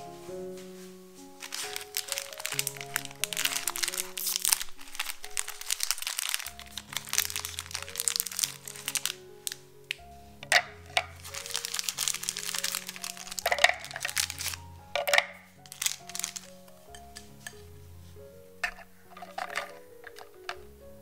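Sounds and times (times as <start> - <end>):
light background music: 0.0 - 21.0
plastic wrappers crinkling: 1.2 - 17.7, 18.6 - 20.7.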